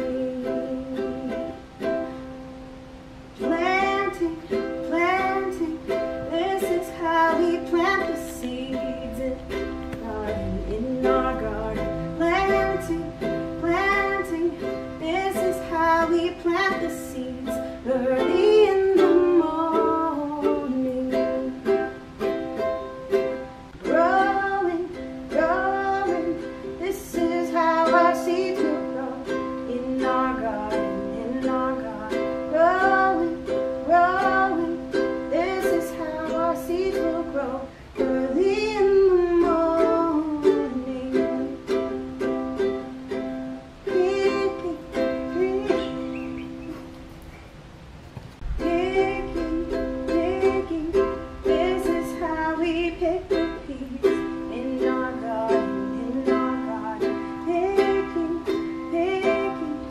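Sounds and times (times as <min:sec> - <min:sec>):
person singing: 0:00.0 - 0:02.2, 0:03.3 - 0:46.9, 0:48.4 - 0:59.9
plucked-string accompaniment: 0:00.0 - 0:59.9.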